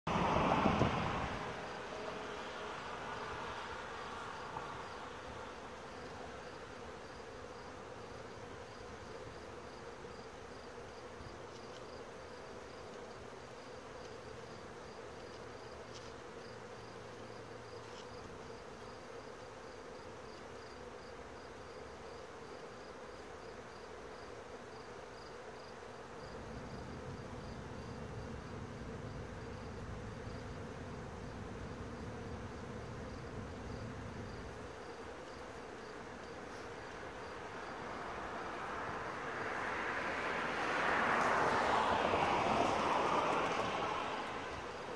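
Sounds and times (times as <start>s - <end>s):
bees buzzing: 0.1s - 44.9s.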